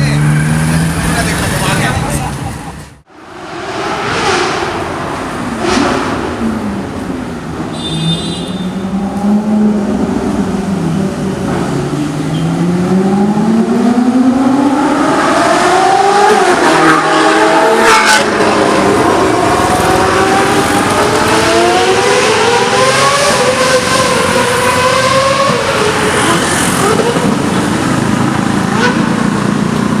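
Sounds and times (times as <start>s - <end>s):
car engines accelerating: 0.0s - 7.9s, 8.7s - 30.0s.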